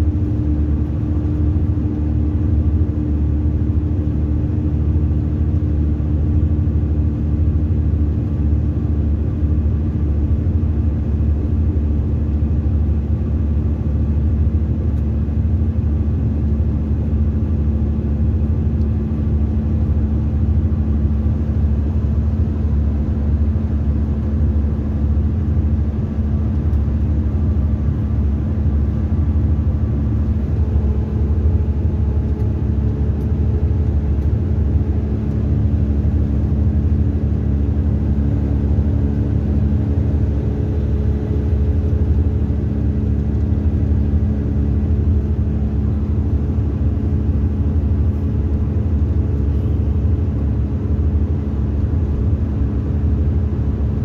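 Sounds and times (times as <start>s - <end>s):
coach engine and road rumble: 0.0s - 54.0s.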